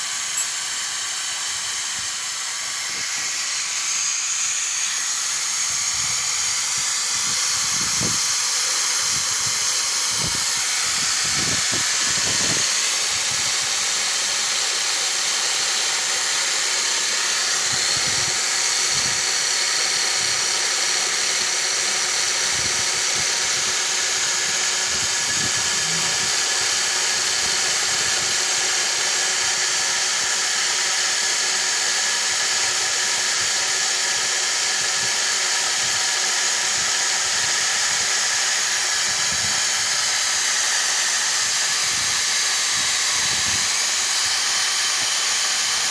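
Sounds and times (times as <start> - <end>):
electric drill whining: 0.0 - 45.9.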